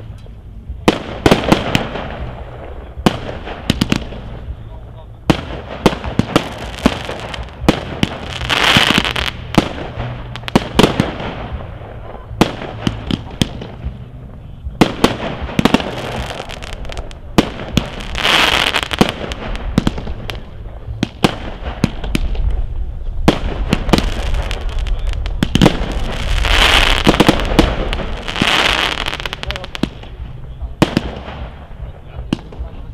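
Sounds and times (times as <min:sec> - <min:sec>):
fireworks bangs: 0:00.8 - 0:32.9.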